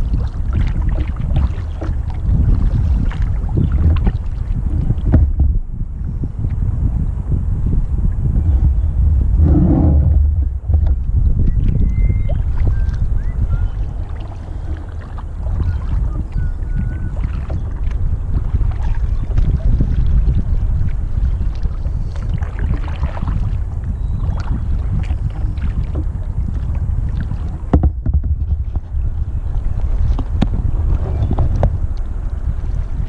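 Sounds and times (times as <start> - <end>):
paddle splashes: 0.0 - 5.6, 9.4 - 33.0
wind rumble on microphone: 0.0 - 33.0.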